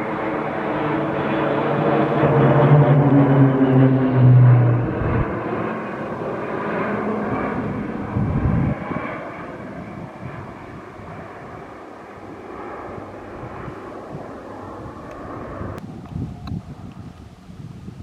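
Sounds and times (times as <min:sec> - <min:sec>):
turboprop aircraft flying past: 0:00.0 - 0:15.8.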